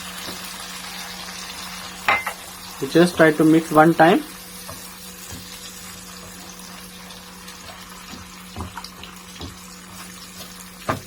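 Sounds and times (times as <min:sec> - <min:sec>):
omelette sizzling in frying pan: 0:00.0 - 0:11.0.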